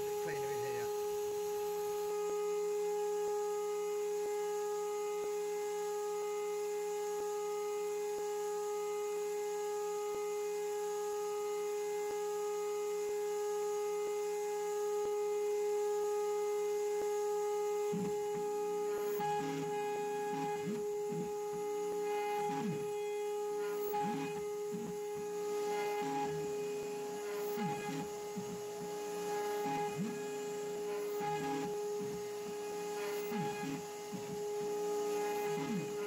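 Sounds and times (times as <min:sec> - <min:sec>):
router spindle whining: 0:00.0 - 0:36.0.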